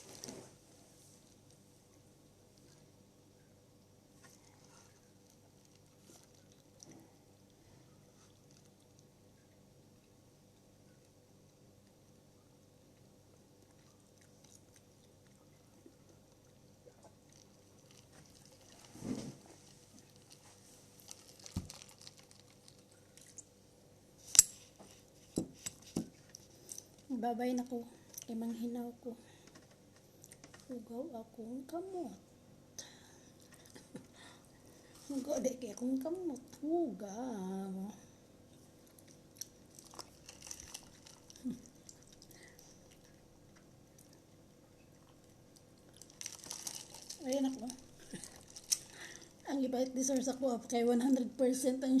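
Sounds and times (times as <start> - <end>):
soft chewing: 0.0 - 28.4, 29.3 - 30.7, 32.8 - 36.7, 38.1 - 50.2.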